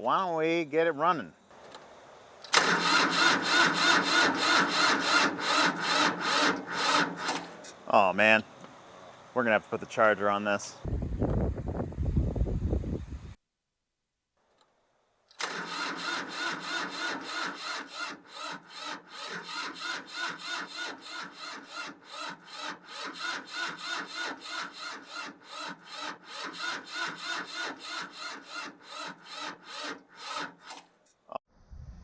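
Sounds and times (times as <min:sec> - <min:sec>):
electric starter cranking diesel engine: 0:00.8 - 0:13.4, 0:15.3 - 0:31.0.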